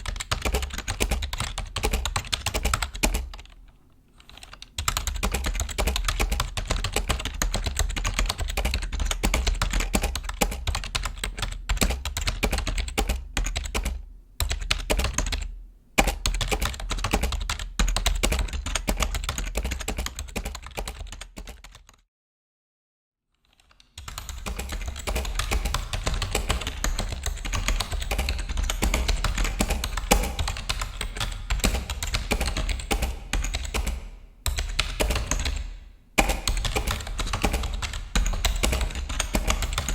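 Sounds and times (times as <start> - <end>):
typing on computer keyboard: 0.0 - 22.0, 23.4 - 39.9.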